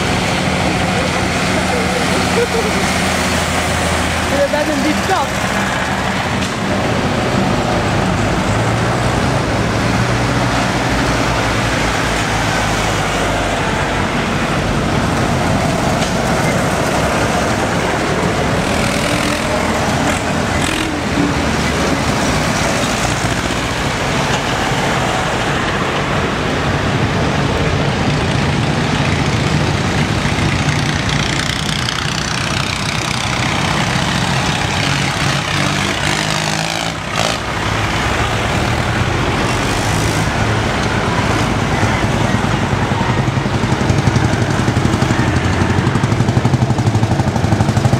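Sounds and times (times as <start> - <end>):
mechanical and road noise: 0.0 - 47.9
tractor engines running: 0.0 - 47.9.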